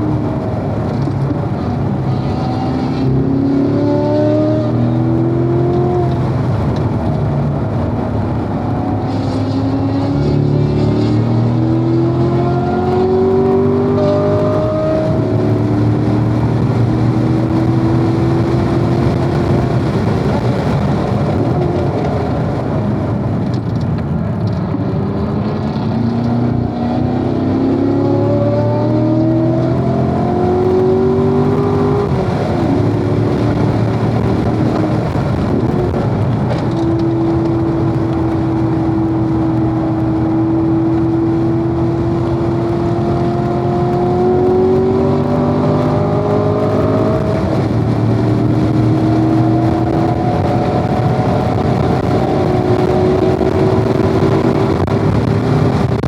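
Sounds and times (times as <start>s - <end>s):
car engine accelerating: 0.0s - 56.0s
wind and tyre noise: 0.0s - 56.0s.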